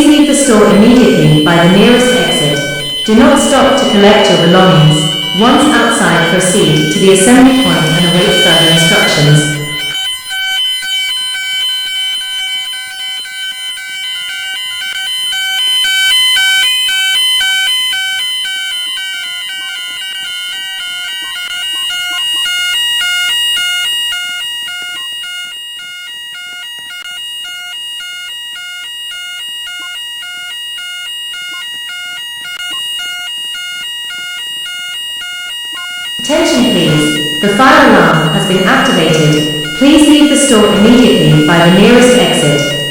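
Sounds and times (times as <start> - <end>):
rapidly pulsing alarm tones: 0.0 - 42.9
steady high-pitched tone: 0.0 - 42.9.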